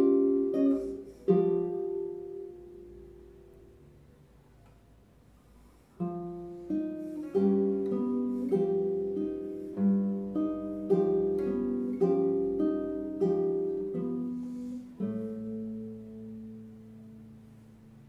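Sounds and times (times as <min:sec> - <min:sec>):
classical guitar playing: 0:00.0 - 0:04.4, 0:05.5 - 0:18.0.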